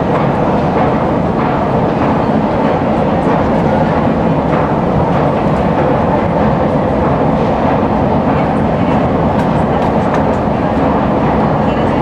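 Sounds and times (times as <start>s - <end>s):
escalator mechanical rumble: 0.0s - 12.0s.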